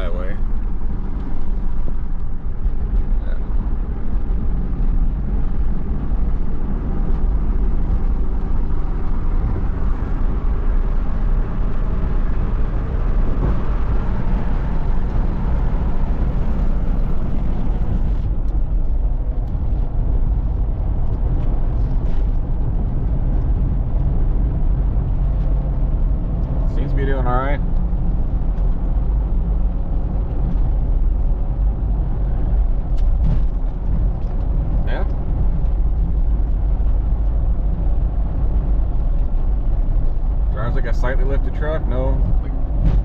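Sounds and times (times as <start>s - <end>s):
truck engine and tyre rumble: 0.0s - 43.0s
wind and road noise: 0.0s - 43.0s.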